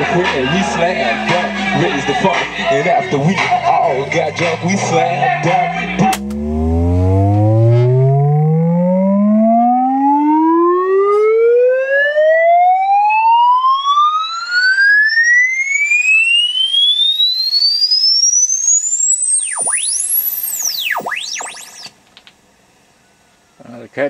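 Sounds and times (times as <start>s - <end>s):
rising sine-wave test tone: 0.0s - 22.0s.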